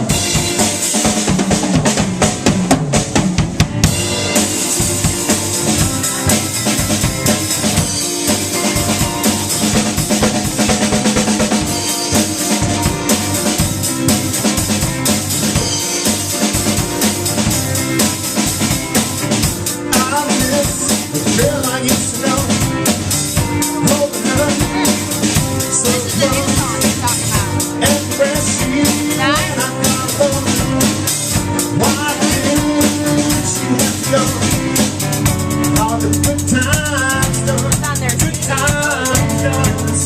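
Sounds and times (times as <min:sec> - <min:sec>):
drum kit beat: 0:00.0 - 0:40.0
live band playing instrumental: 0:00.0 - 0:40.0.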